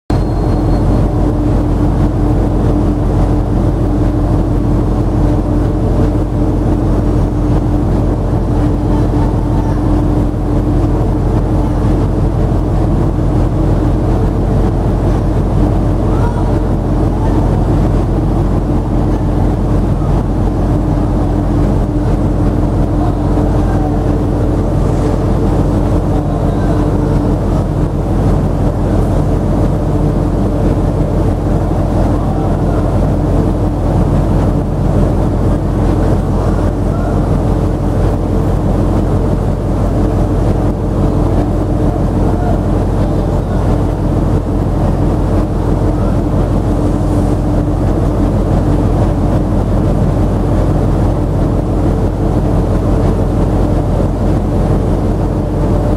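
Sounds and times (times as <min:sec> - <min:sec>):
ship machinery drone: 0:00.1 - 0:55.9.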